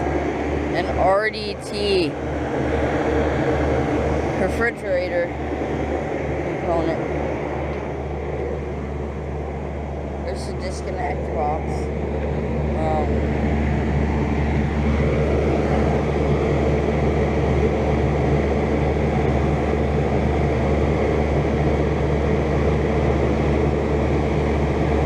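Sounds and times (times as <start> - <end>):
compressor humming: 0.0 - 25.0
fan air rushing: 0.0 - 25.0.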